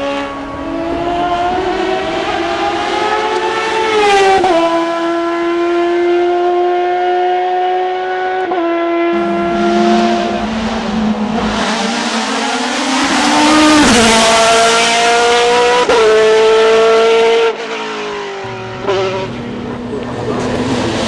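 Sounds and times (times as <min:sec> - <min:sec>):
car passing rush: 0:00.0 - 0:21.0
race car engine at full throttle: 0:00.0 - 0:21.0.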